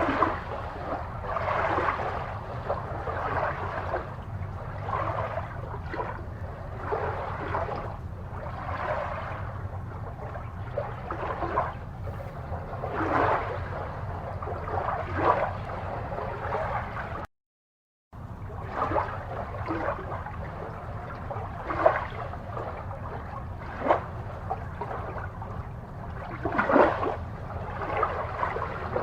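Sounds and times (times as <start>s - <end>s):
steady low hum: 0.0s - 17.3s, 18.2s - 29.0s
water gurgling and bubbling: 0.0s - 17.3s, 18.2s - 29.0s.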